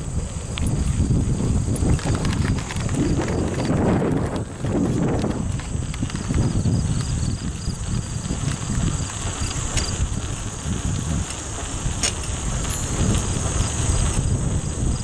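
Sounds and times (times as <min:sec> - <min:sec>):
insect chirping: 0:00.0 - 0:15.0
insects droning: 0:00.0 - 0:15.0
wind and ride noise rumbling: 0:00.0 - 0:15.0.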